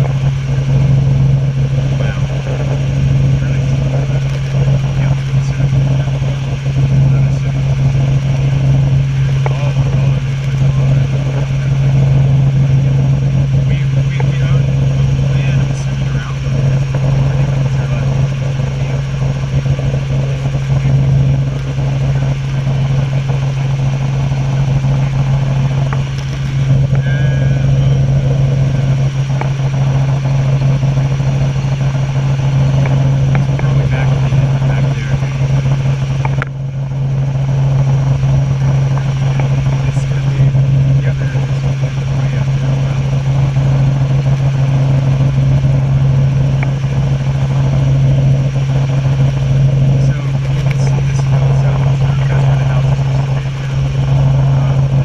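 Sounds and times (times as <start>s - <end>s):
helicopter engine and rotors drone: 0.0s - 55.0s.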